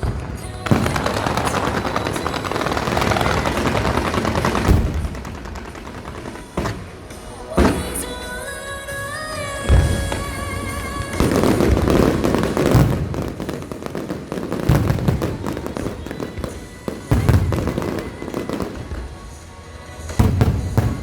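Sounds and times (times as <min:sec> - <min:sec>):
fireworks booming: 0:00.0 - 0:21.0
fireworks crackling: 0:00.0 - 0:21.0
music: 0:00.0 - 0:21.0.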